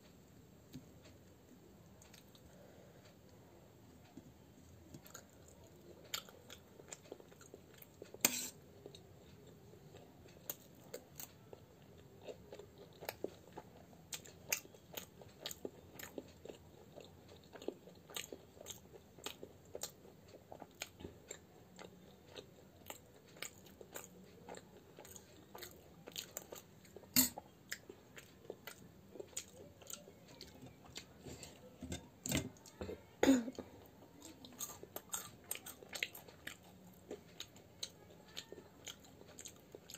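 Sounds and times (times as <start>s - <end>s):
person chewing crisp food: 4.8s - 32.8s, 33.8s - 39.9s.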